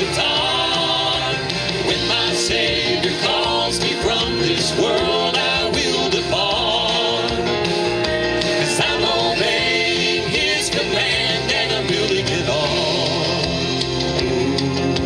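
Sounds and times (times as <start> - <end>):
live gospel band playing: 0.0 - 15.0.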